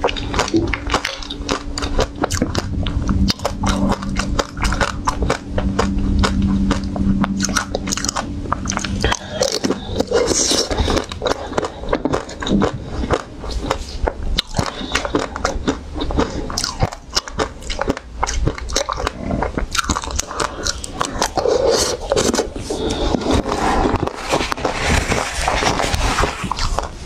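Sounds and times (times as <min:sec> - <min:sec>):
teeth crunching ice cream bar: 0:00.0 - 0:27.0.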